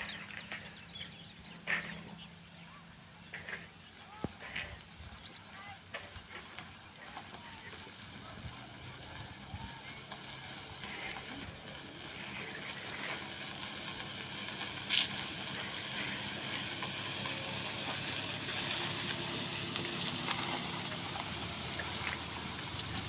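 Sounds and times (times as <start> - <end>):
car driving slowly on dirt: 0.0 - 23.0.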